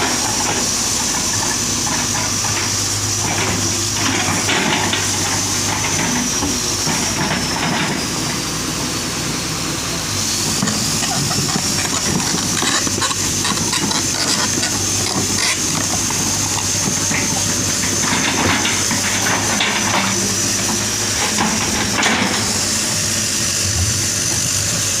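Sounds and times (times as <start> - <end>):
excavator engine hum and whine: 0.0 - 25.0.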